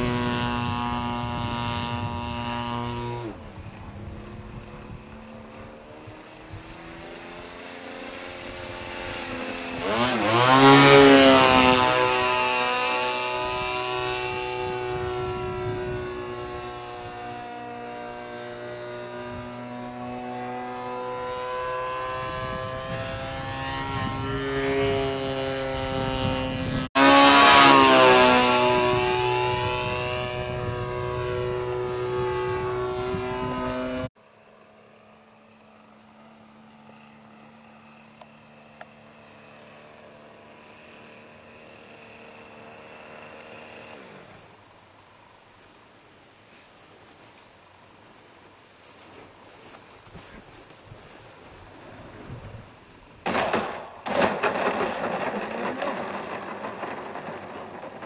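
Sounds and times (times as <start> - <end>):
model airplane engine buzzing: 0.0 - 45.5, 49.5 - 58.0.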